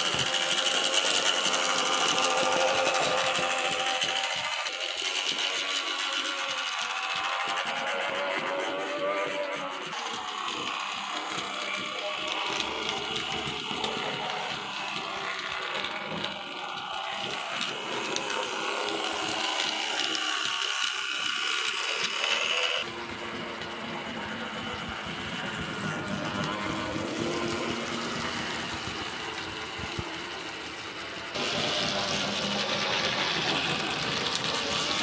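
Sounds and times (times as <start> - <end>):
small electric motor whirring: 0.0 - 35.0
wheels rattling over rails: 0.0 - 35.0.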